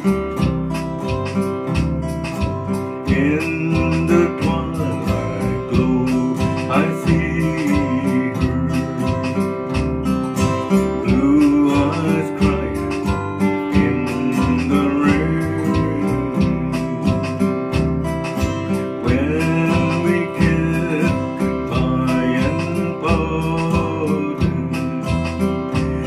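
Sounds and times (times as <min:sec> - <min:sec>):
steady beat: 0:00.0 - 0:26.0
strummed acoustic guitar: 0:00.0 - 0:26.0
man singing: 0:02.7 - 0:26.0.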